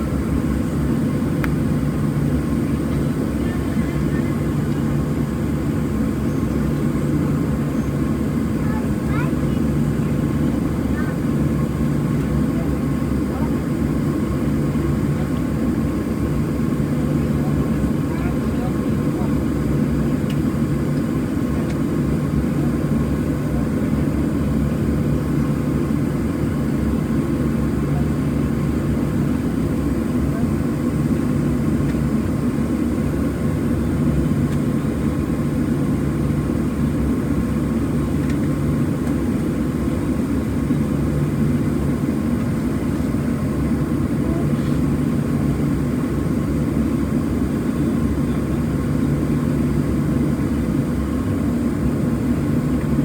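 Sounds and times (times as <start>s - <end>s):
jet engines heard from cabin: 0.0s - 53.0s.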